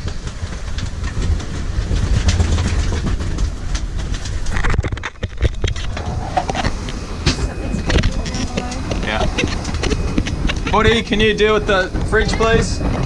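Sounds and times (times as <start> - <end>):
clattering and knocks: 0.0 - 13.0
wind rumbling on microphone: 0.0 - 13.0.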